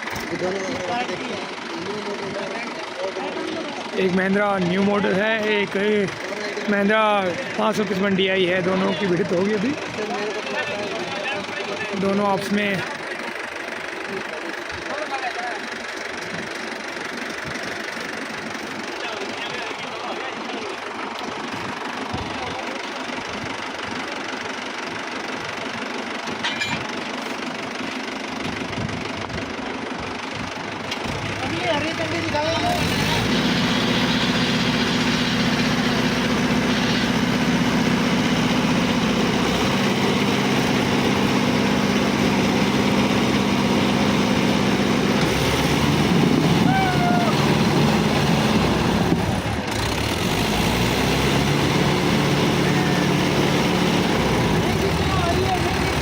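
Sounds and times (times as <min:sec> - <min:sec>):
tractor diesel engines running: 0:00.0 - 0:56.0.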